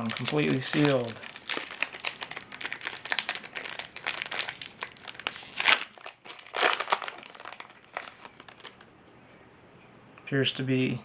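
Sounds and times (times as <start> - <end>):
card pack wrapper crinkling: 0.0 - 8.9.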